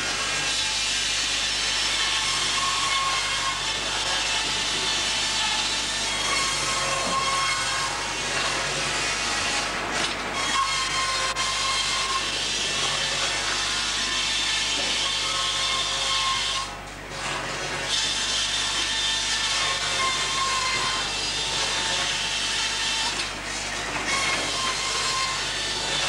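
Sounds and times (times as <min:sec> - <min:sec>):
sawmill saw cutting timber: 0:00.0 - 0:26.0.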